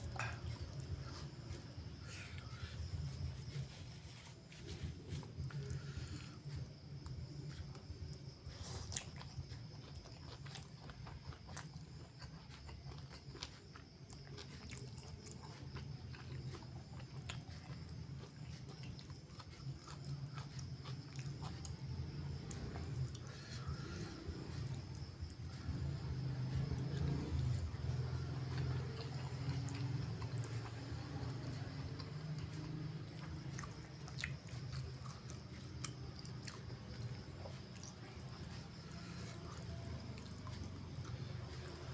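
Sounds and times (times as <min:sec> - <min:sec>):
low steady hum: 0:00.0 - 0:41.9
wet chewing clicks and smacks: 0:04.7 - 0:41.9.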